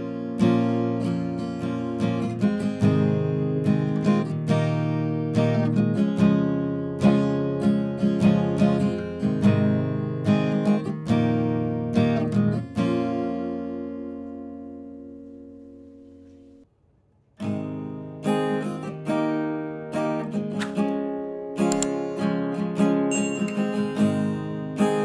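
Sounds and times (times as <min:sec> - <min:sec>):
acoustic guitar strumming: 0:00.0 - 0:16.6, 0:17.4 - 0:25.0.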